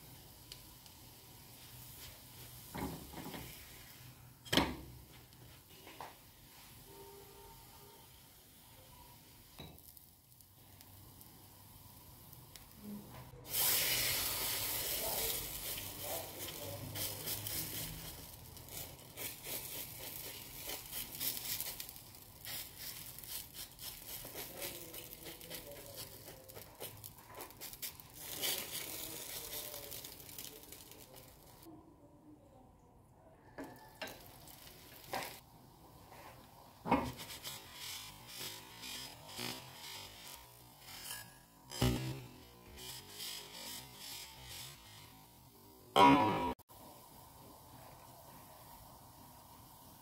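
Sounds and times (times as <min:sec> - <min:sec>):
dough sizzling in hot oil: 0:00.0 - 0:31.7, 0:33.6 - 0:50.0.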